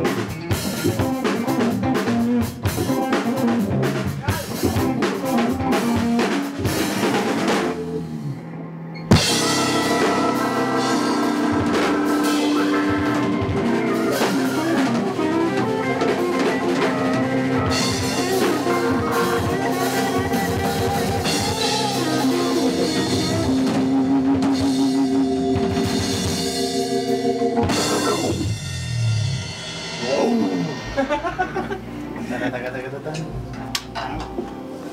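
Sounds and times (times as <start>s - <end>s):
drum kit beat: 0.0s - 8.1s, 9.1s - 32.2s
electric bass: 0.0s - 34.5s
electric guitar: 0.0s - 34.9s.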